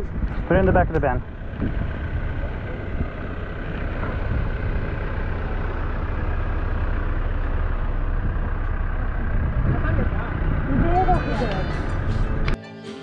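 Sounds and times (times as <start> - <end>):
van engine idling: 0.0 - 12.6.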